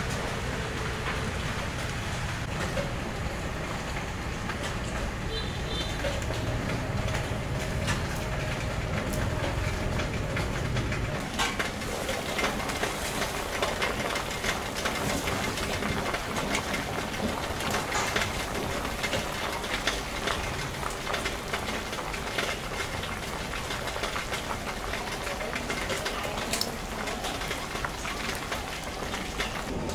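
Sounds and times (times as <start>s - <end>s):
pot bubbling and hissing: 0.0s - 29.9s
wood fire crackling: 0.0s - 29.9s.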